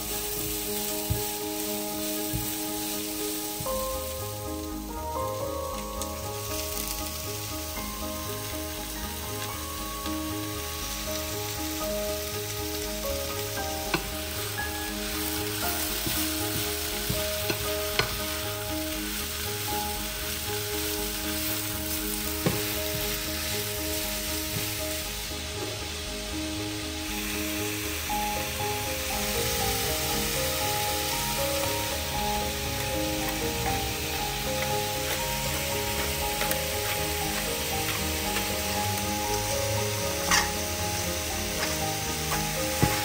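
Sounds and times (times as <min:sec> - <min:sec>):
background music: 0:00.0 - 0:43.0
food sizzling in frying pan: 0:00.0 - 0:43.0.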